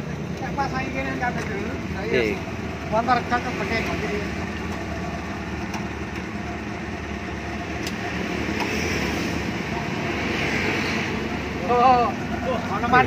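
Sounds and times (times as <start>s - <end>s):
jeep engine idling: 0.0s - 13.0s.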